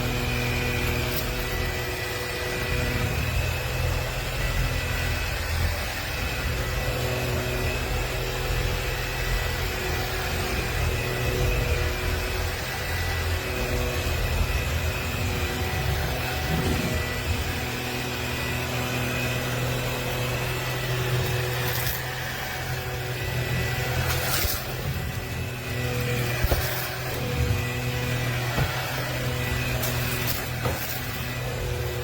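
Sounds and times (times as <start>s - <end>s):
vacuum cleaner motor whining: 0.0s - 32.0s.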